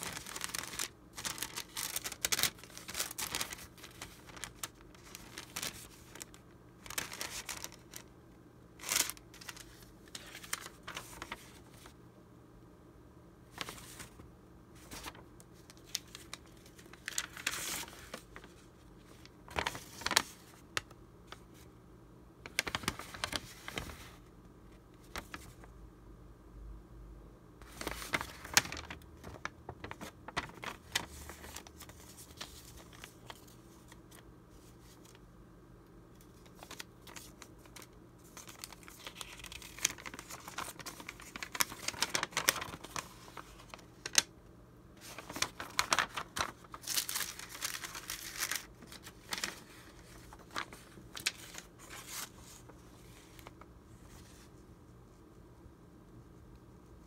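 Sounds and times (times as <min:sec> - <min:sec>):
paper rustling and crinkling: 0:00.0 - 0:08.2, 0:08.8 - 0:12.0, 0:13.5 - 0:21.7, 0:22.4 - 0:24.3, 0:25.0 - 0:25.7, 0:27.6 - 0:35.2, 0:36.2 - 0:44.3, 0:45.0 - 0:54.6.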